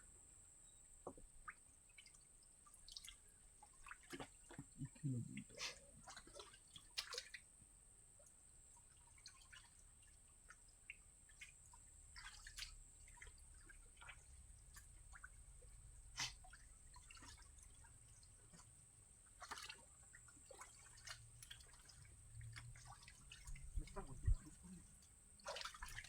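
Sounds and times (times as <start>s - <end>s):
water dripping and splashing: 1.1s - 26.0s.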